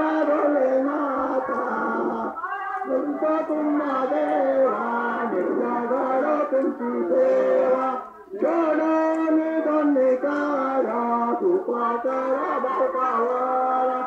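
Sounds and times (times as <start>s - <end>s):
man chanting over loudspeaker: 0.0s - 14.0s.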